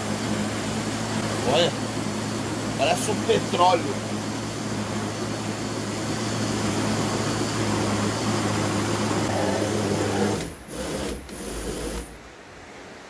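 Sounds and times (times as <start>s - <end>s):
electric blender running: 0.0s - 12.2s.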